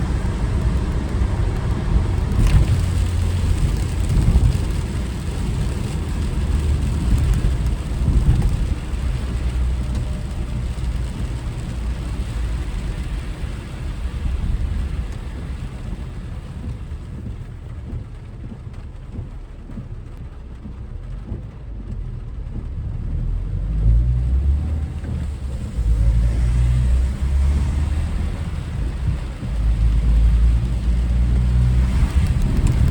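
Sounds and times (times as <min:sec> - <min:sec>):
rain hiss on wet road: 0:00.0 - 0:32.9
road and tyre rumble: 0:00.0 - 0:32.9.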